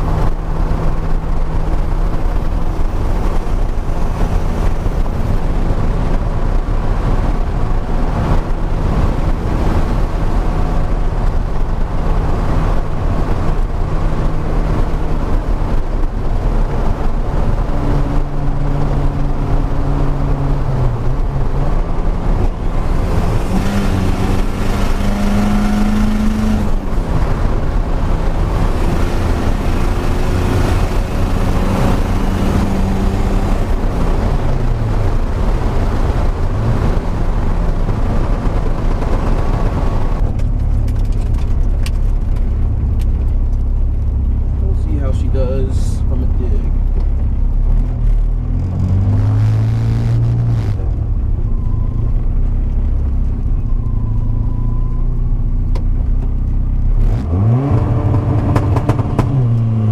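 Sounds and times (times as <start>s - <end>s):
car engine drone: 0.0s - 59.9s
wind and tyre noise: 0.0s - 59.9s.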